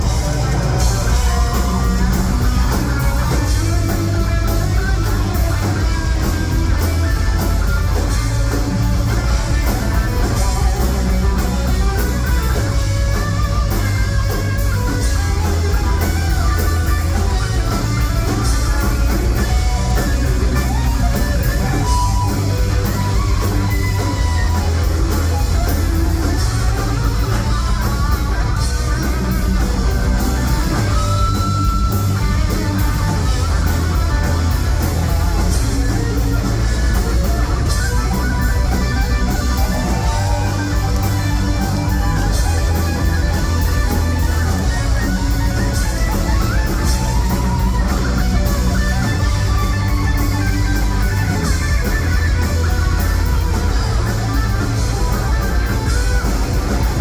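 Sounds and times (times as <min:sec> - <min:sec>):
electric guitar solo: 0:00.0 - 0:57.0
heavy metal band playing: 0:00.0 - 0:57.0.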